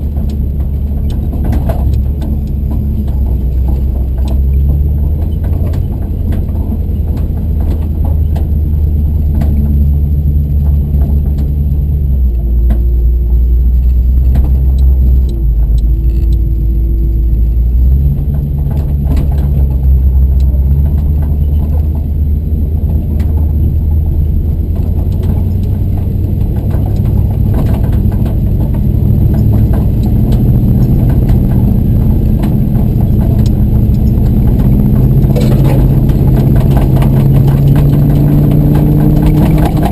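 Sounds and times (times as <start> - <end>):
knocks and rattles: 0.0 - 39.9
truck engine running: 0.0 - 39.9.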